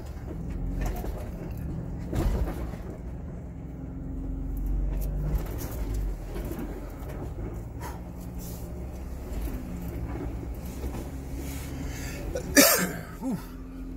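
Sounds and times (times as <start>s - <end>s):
engine low drone: 0.0s - 13.9s.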